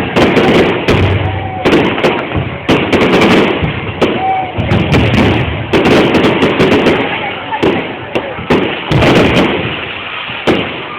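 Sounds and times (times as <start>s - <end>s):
fireworks bangs: 0.0s - 10.9s.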